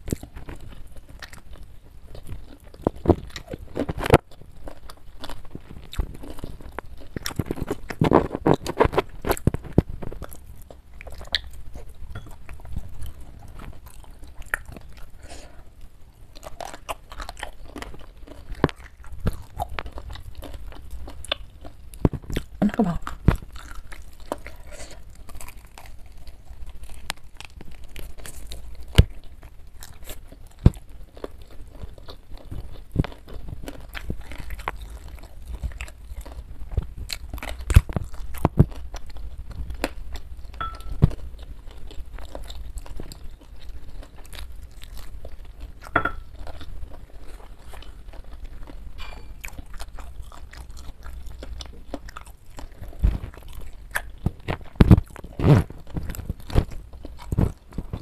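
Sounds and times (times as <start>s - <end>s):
chewing with sharp crunches: 0.0s - 58.0s.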